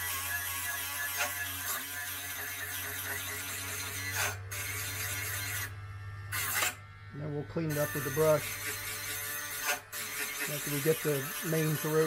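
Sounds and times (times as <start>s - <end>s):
rotary tool grinding metal: 0.0s - 12.0s.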